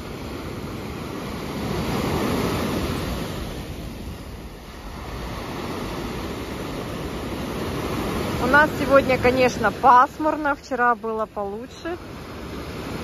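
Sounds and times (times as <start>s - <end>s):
surf breaking on sandy beach: 0.0s - 13.0s.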